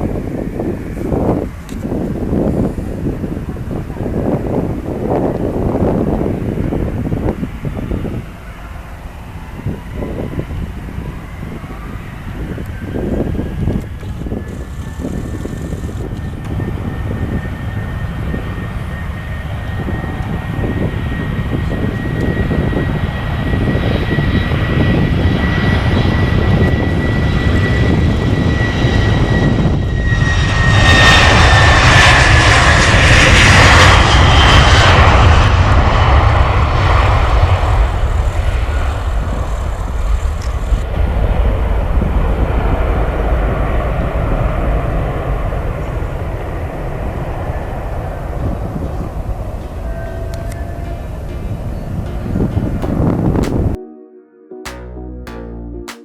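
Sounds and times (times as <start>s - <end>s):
jet engines passing: 0.0s - 53.8s.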